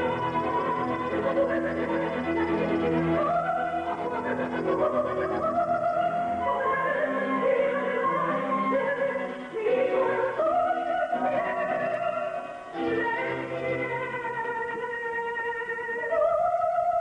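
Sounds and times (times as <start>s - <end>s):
operatic voice singing: 0.0s - 17.0s.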